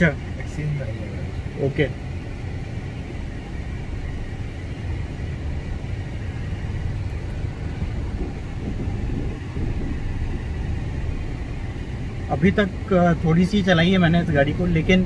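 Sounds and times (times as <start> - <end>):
car cabin tyre and engine rumble: 0.0 - 15.0.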